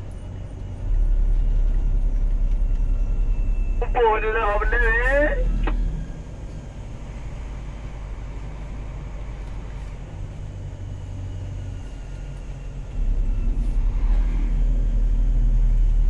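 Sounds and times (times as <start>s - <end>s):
heavy vehicle engine droning: 0.0s - 16.0s.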